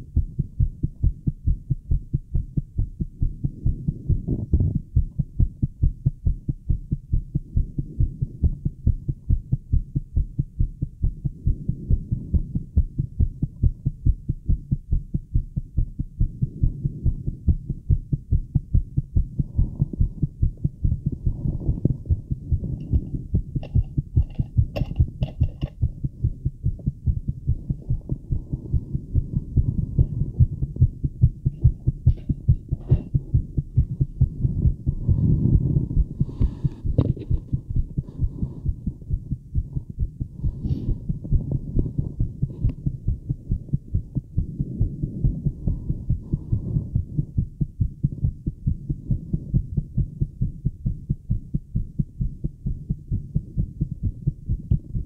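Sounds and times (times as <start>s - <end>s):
fast heartbeat thumps: 0.0s - 55.0s.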